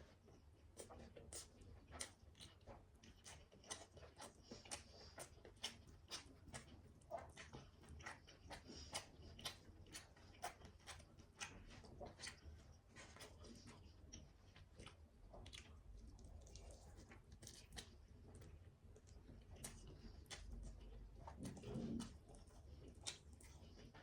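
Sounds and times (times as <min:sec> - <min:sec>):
wet mouth clicks and chewing: 0:00.5 - 0:24.0.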